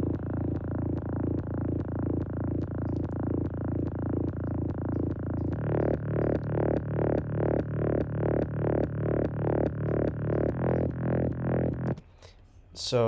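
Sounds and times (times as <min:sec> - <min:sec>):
pulsing synthesizer bass line: 0:00.0 - 0:12.0.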